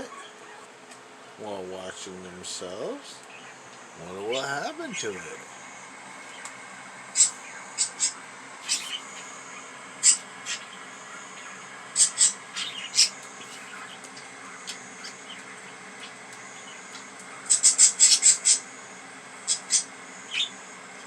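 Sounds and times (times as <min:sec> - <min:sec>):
budgies chirping: 0:00.0 - 0:21.0.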